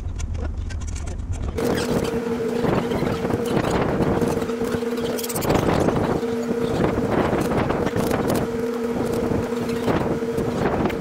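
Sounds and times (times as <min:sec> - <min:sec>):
steady low hum: 0:00.0 - 0:11.0
wind on microphone: 0:01.4 - 0:11.0.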